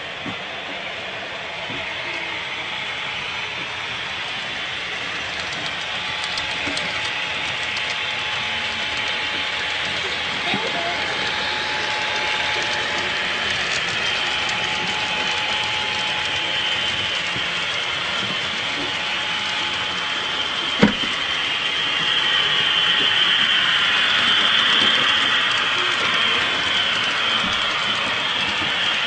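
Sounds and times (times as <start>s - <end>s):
model trains whirring and clicking: 0.0s - 29.0s.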